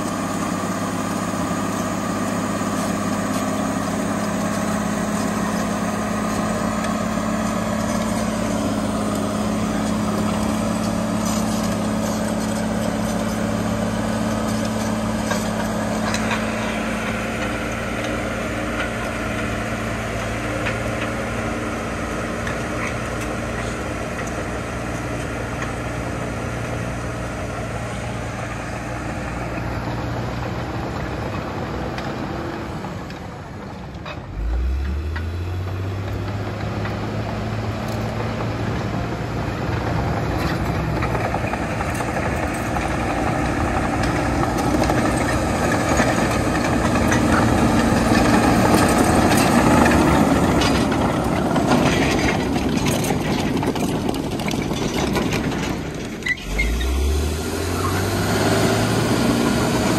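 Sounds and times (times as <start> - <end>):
diesel engine running and revving: 0.0 - 59.9
tracks over loose dirt: 0.0 - 59.9.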